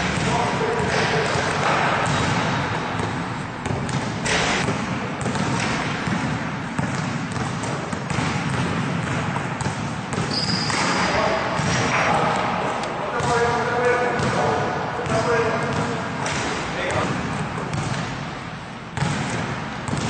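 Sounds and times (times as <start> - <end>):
basketballs bouncing on hard floor: 0.0 - 20.0.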